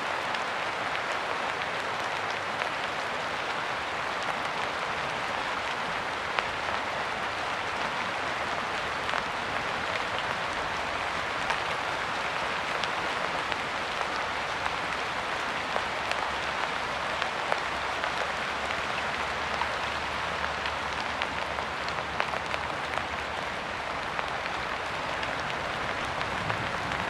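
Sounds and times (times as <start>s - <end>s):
raindrops pattering: 0.0s - 27.0s
steady rain: 0.0s - 27.0s.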